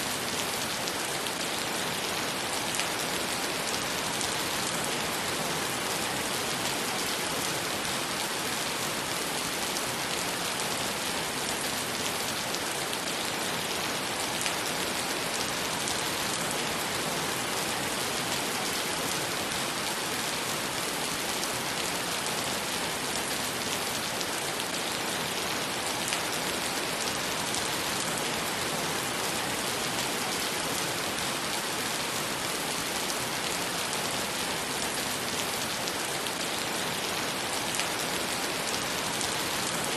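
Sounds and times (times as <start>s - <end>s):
heavy rain on wet pavement: 0.0s - 39.9s.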